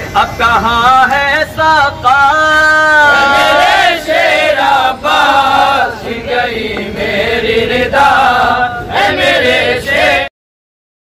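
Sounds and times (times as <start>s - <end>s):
men chanting through microphones: 0.0s - 10.3s.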